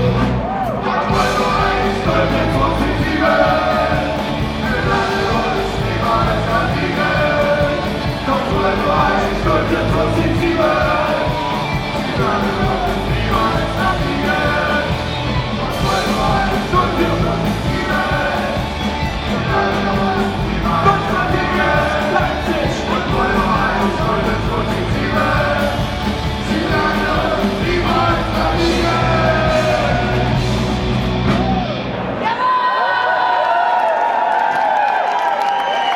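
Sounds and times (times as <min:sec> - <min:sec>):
singer shouting vocals: 0:00.0 - 0:30.6
bass guitar: 0:00.0 - 0:32.3
electric guitar: 0:00.0 - 0:32.3
drums: 0:00.0 - 0:32.5.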